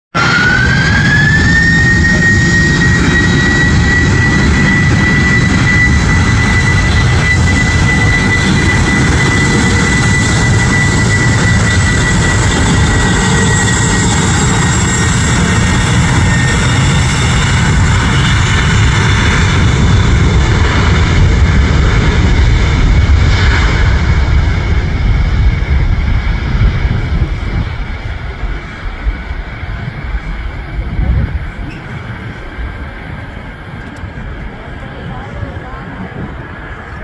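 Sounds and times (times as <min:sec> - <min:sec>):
jet engines roaring: 0:00.1 - 0:37.0.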